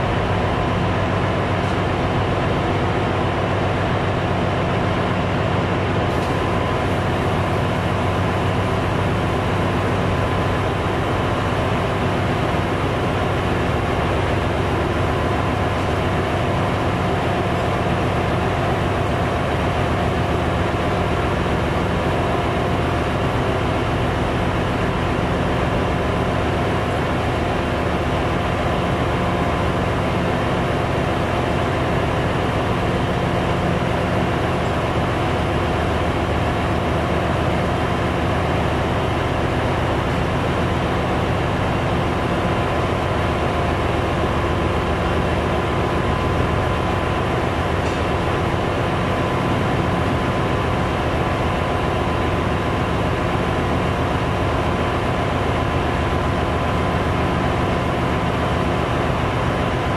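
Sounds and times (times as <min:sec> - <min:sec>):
engine room machinery drone: 0:00.0 - 0:59.9.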